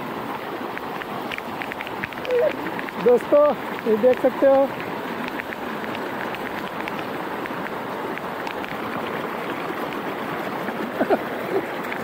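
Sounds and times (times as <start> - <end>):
rain ticking: 0.0 - 12.0
river rushing: 0.0 - 12.0.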